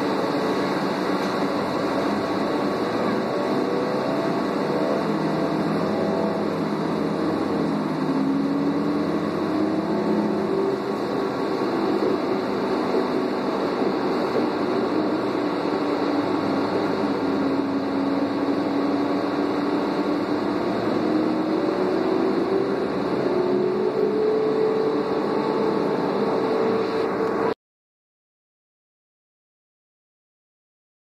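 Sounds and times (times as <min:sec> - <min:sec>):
bus engine drone with whine: 0:00.0 - 0:27.6.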